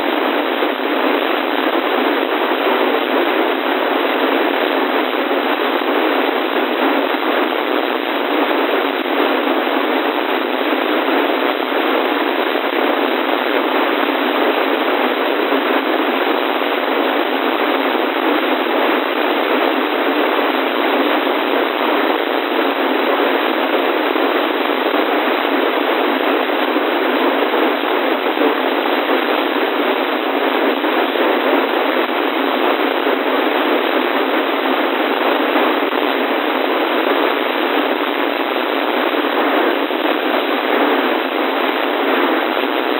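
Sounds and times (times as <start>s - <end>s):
radio static hiss: 0.0s - 42.9s.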